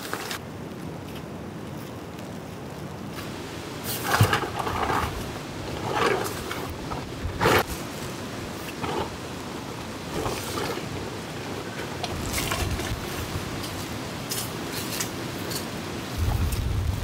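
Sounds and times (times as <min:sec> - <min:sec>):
rain: 0:00.0 - 0:17.0
wind noise: 0:00.0 - 0:17.0.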